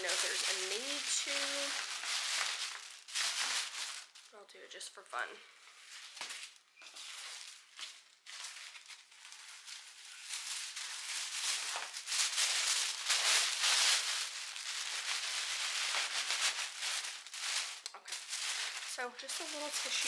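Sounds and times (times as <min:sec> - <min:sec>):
tissue paper crinkling: 0:00.0 - 0:04.4, 0:05.6 - 0:20.0.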